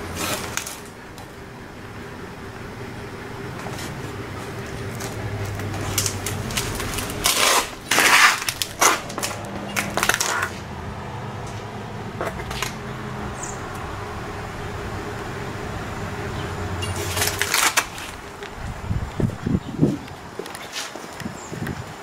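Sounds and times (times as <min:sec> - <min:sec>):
steady low hum: 0:00.0 - 0:20.5.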